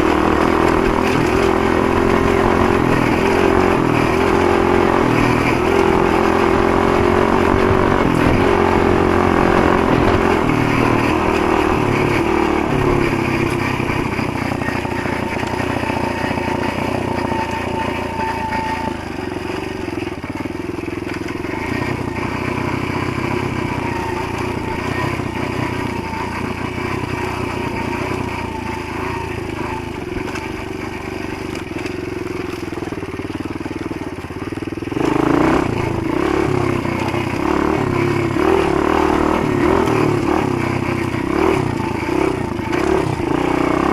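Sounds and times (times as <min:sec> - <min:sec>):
motorbike engine running: 0:00.0 - 0:43.9.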